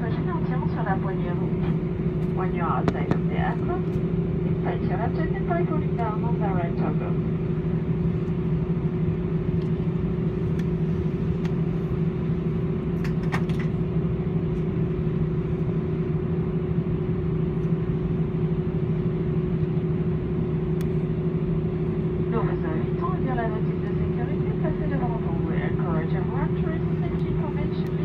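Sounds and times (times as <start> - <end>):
jet engines idling with tones: 0.0 - 28.0
low rumble of taxiing aircraft: 0.0 - 28.0.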